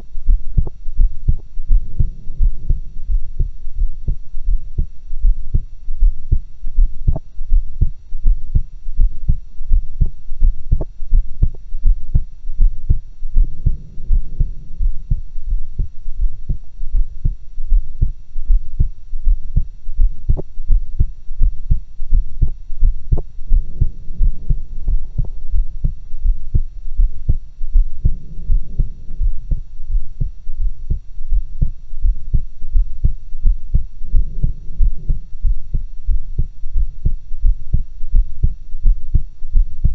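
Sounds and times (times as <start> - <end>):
heartbeat through stethoscope: 0.2 - 39.9.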